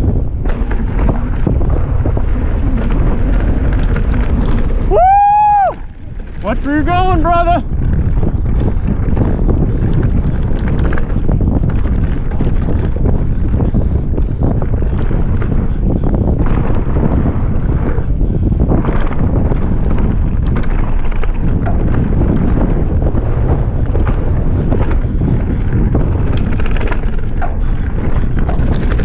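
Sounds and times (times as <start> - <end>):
bike rattling over bumps: 0.0 - 29.0
bike tyres on dirt trail: 0.0 - 29.0
wind buffeting microphone: 0.0 - 29.0.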